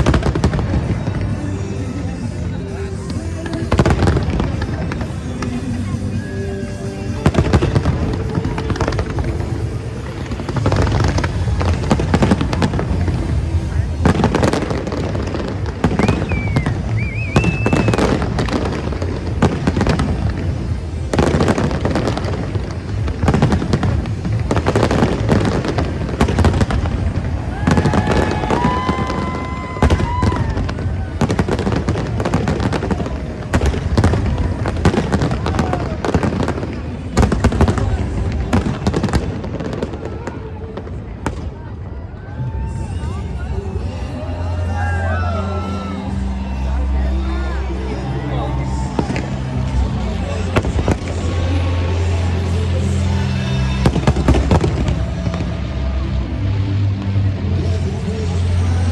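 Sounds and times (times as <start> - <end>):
high whistling fireworks: 0.0 - 44.6, 48.6 - 58.9
fireworks bangs and crackles: 0.0 - 44.7, 45.6 - 58.9
music playing: 0.0 - 58.9.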